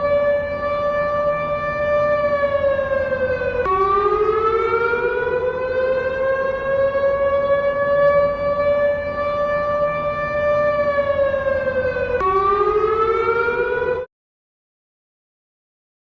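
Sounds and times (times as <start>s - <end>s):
siren alarm tone: 0.0s - 14.1s.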